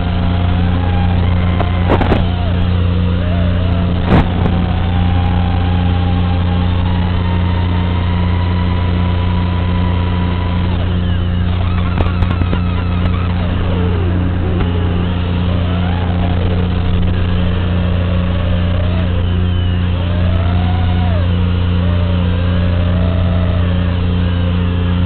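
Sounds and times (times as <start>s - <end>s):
constant low buzz: 0.0s - 25.0s
quadcopter motors whining: 0.0s - 25.0s
sharp crackles: 0.0s - 25.0s.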